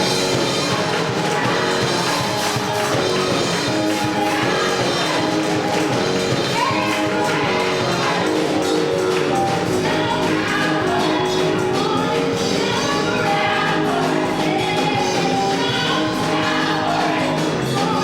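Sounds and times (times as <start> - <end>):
band accompaniment: 0.0 - 18.0
gospel choir singing: 0.0 - 18.0.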